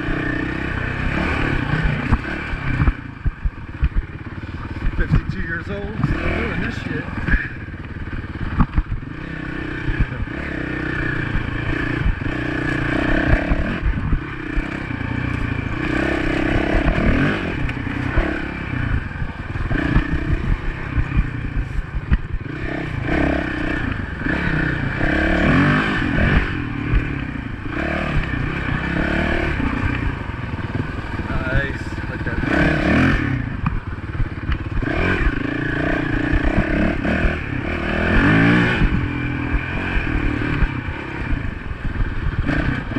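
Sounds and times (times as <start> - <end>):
bike rattling over rough ground: 0.0 - 42.9
dirt bike engine revving: 0.0 - 42.9.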